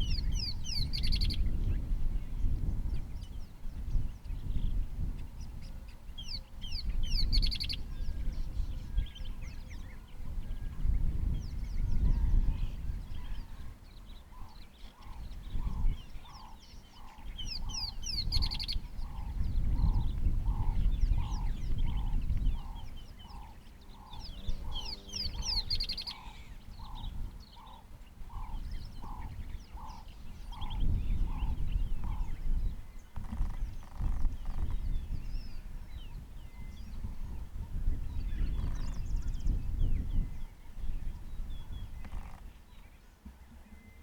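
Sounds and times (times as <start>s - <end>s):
birds chirping high: 0.0s - 44.0s.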